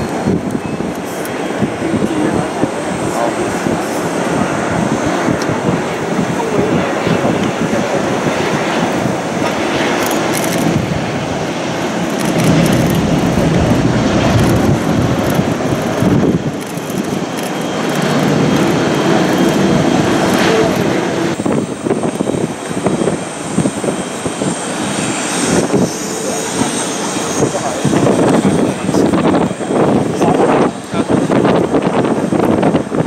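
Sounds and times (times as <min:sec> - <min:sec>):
jet airliner engines rushing: 0:00.0 - 0:33.0.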